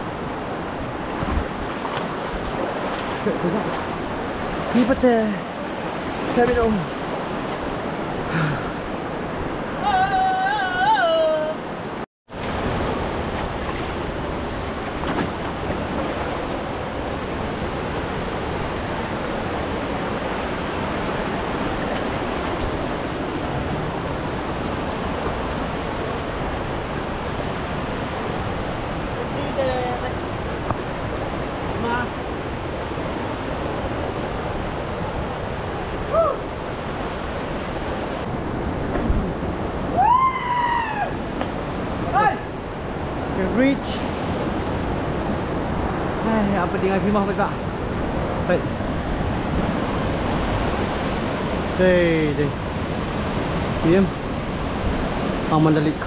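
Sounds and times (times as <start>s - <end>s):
fast-flowing water rushing: 0.0s - 56.0s.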